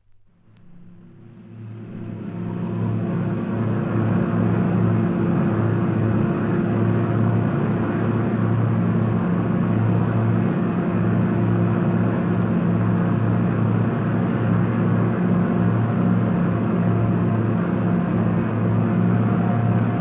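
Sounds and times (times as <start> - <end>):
engine drone with slow throb: 0.6 - 20.0.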